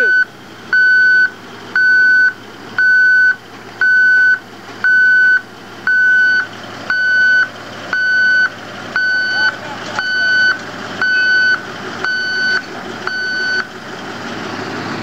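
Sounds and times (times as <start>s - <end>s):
backup alarm beeping: 0.0s - 13.7s.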